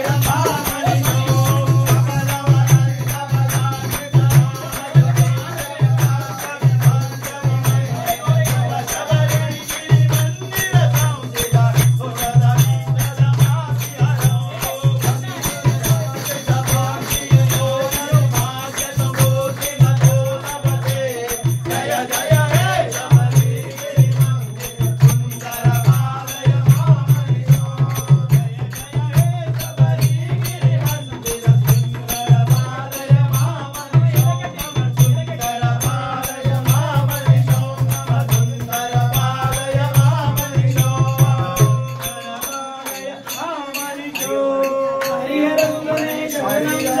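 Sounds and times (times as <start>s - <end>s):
steady drum beat: 0.0s - 42.5s
person singing devotional song: 0.0s - 47.0s.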